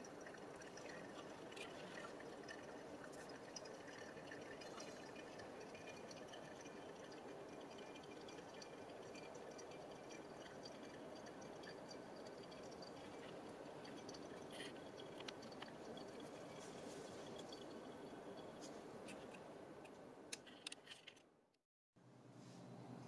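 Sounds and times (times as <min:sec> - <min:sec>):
coffee trickling through filter: 0:00.0 - 0:19.4
small drips: 0:00.0 - 0:19.4.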